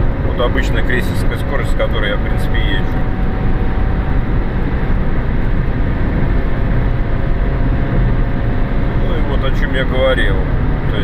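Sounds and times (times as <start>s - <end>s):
car engine drone: 0.0s - 11.0s.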